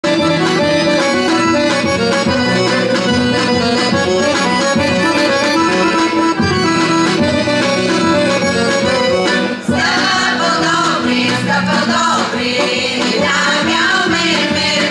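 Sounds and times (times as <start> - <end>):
accordion folk tune: 0.0 - 14.9
drum beat: 2.2 - 14.9.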